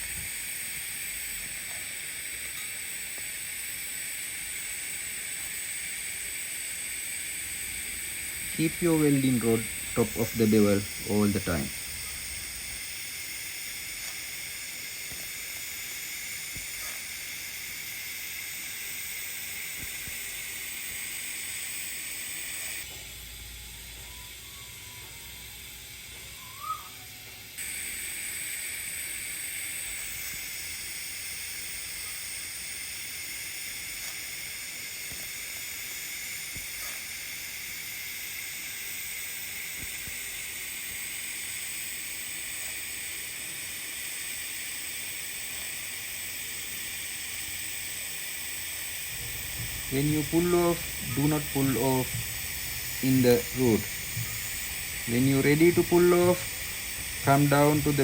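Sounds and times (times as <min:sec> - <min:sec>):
welding arc hissing: 0:00.0 - 0:58.0.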